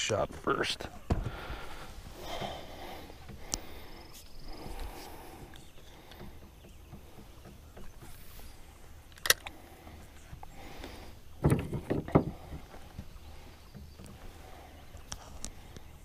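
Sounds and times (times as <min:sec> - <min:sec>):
gear knocking against boat: 0:00.9 - 0:09.0, 0:09.9 - 0:14.7.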